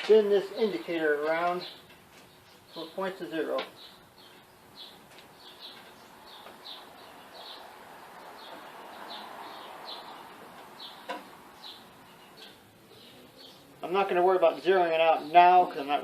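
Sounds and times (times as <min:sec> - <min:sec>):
bird chirping: 0:00.0 - 0:14.3
low hiss: 0:00.0 - 0:16.0.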